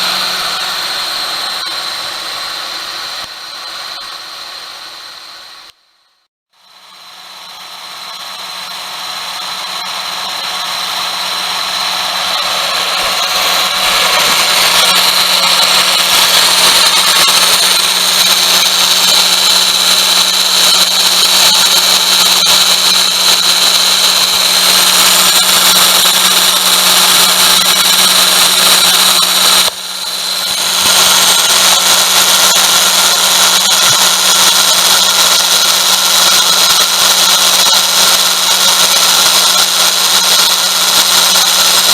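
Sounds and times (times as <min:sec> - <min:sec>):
pulley bearing whine: 0:00.0 - 0:05.8, 0:06.5 - 0:41.9.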